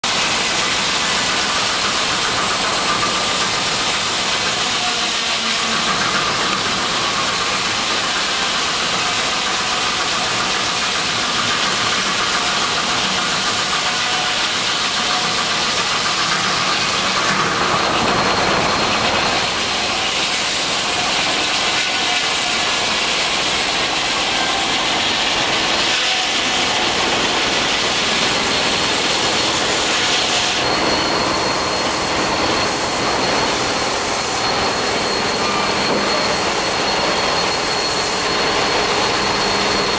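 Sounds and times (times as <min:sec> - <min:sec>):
steam engine running with hiss: 0:00.0 - 0:39.9.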